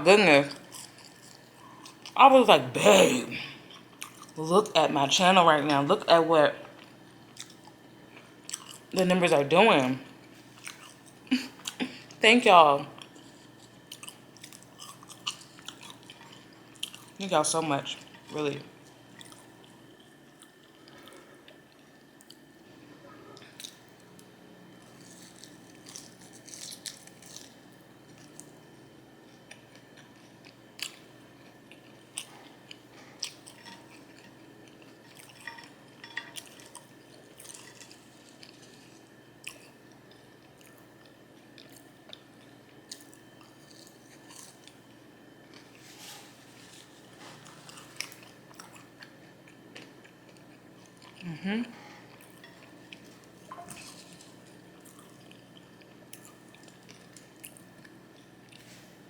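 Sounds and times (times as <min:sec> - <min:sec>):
faint steady hum: 0:00.0 - 0:59.0
chewing and crunching food: 0:00.4 - 0:02.2, 0:03.5 - 0:05.9, 0:06.6 - 0:09.2, 0:10.1 - 0:12.2, 0:12.9 - 0:59.0.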